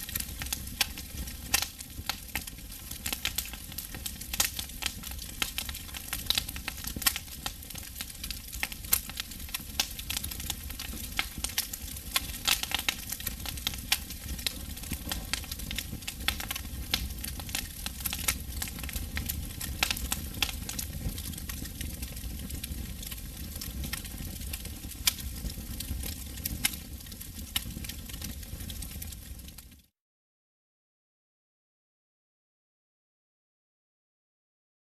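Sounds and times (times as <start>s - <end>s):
campfire crackling and popping: 0.0s - 29.8s.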